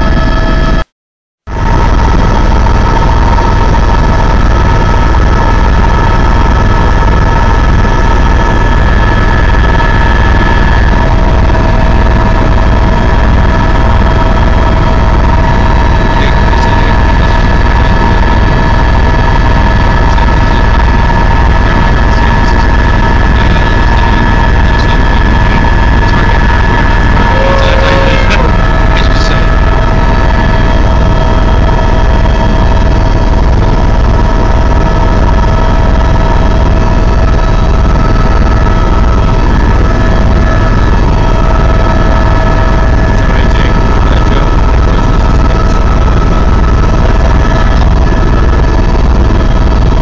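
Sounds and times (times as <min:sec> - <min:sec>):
helicopter engine and rotor noise: 0:00.0 - 0:00.9, 0:01.5 - 0:50.0
high whine: 0:00.0 - 0:00.9, 0:01.5 - 0:50.0.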